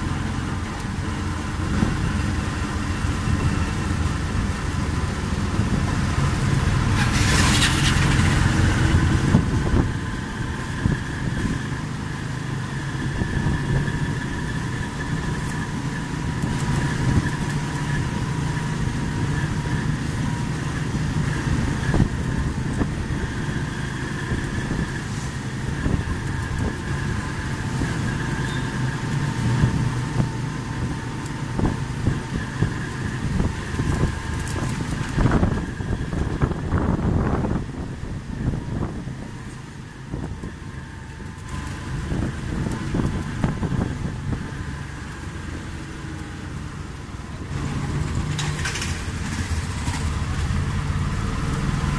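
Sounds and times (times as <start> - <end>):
road noise: 0.0 - 51.9
small vehicle engine running: 0.0 - 51.9.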